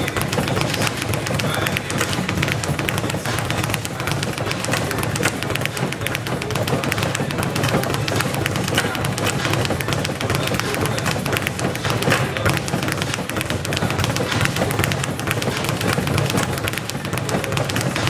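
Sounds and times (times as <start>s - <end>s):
speed bag rattling against platform: 0.0s - 18.0s.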